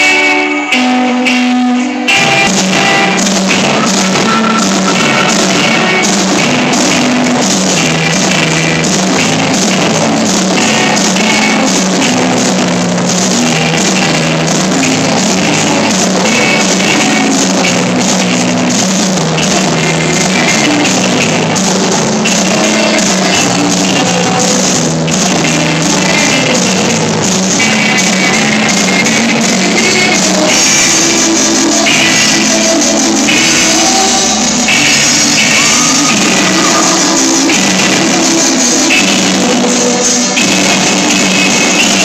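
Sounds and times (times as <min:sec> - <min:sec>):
electric guitar single notes: 0:00.0 - 0:42.0
rock band playing: 0:00.0 - 0:42.0.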